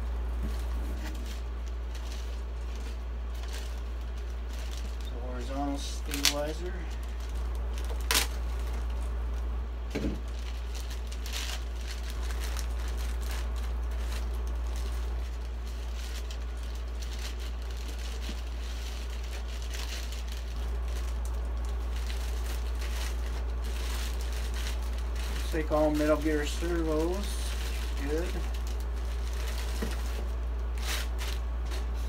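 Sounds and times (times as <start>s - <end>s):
plastic bag crinkling: 0.0s - 32.0s
steady low hum: 0.0s - 32.0s.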